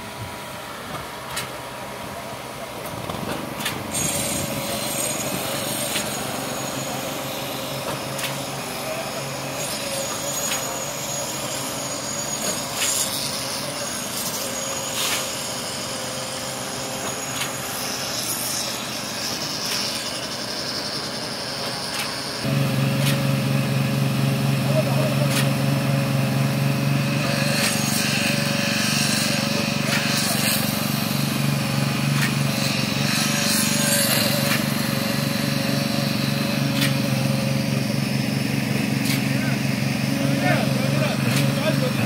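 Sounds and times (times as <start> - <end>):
truck engines running: 0.0 - 42.0
rakes scraping wet concrete: 3.1 - 42.0.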